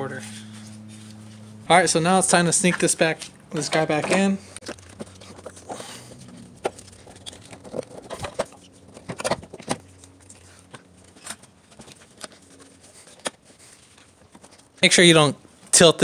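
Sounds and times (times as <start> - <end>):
clicks and rubbing of alternator: 0.0 - 14.9.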